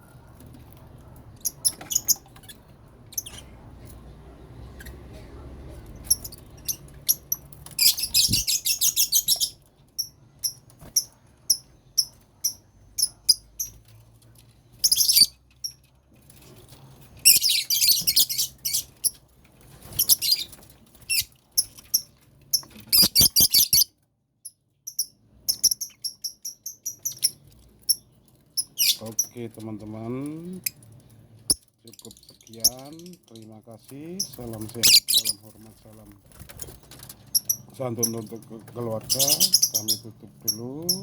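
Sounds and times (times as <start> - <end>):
lovebirds chirping: 0.0 - 3.6, 6.0 - 13.9, 14.6 - 15.8, 17.2 - 23.9, 24.9 - 41.0.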